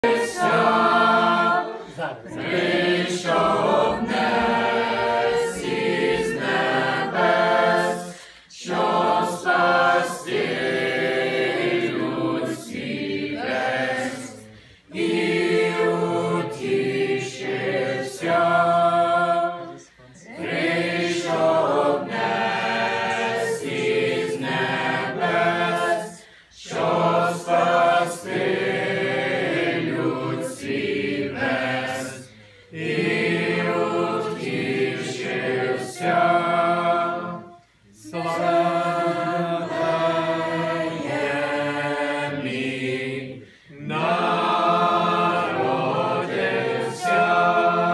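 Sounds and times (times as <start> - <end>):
choir singing a carol: 0.0 - 47.9.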